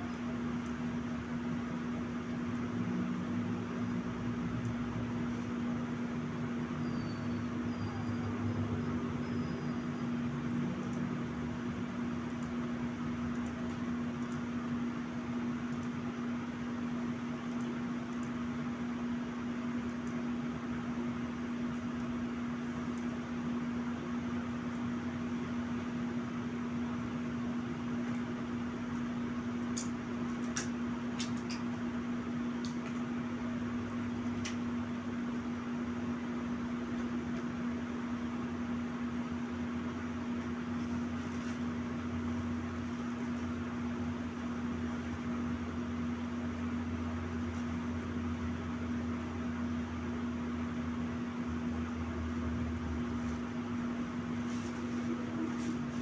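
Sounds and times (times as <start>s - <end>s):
appliance humming: 0.0s - 56.0s.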